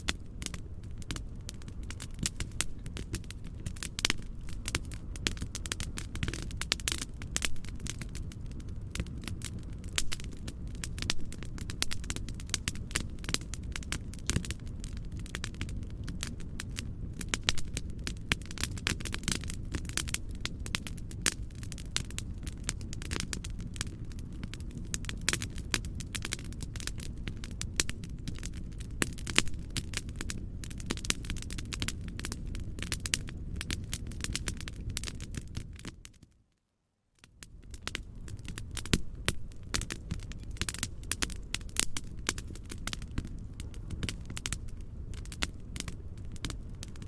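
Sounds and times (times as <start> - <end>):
wood fire crackling and popping: 0.0 - 36.4, 37.2 - 47.0
low rumble of flame: 0.0 - 47.0.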